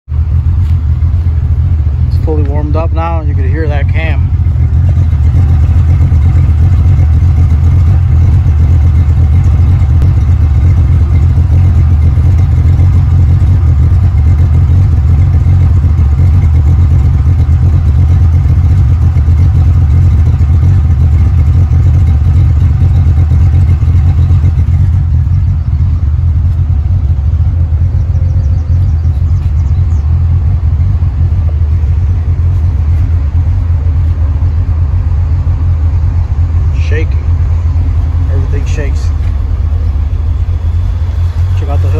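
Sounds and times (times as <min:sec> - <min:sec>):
car engine idling with lope: 0:00.1 - 0:41.9.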